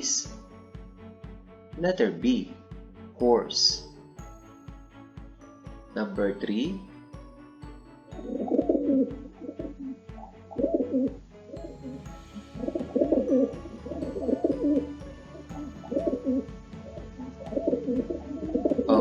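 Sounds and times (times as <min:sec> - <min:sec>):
background music with beat: 0:00.0 - 0:19.0.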